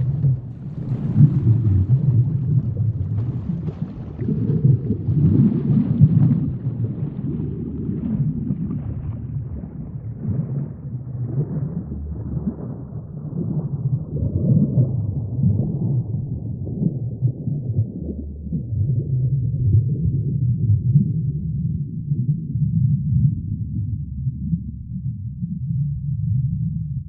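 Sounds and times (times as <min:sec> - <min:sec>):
muffled underwater rumble: 0:00.0 - 0:27.0.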